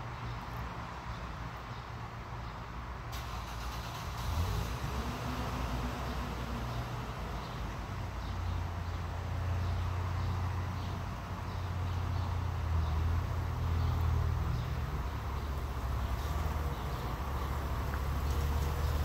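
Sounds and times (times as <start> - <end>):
steady low engine rumble: 0.0 - 19.0.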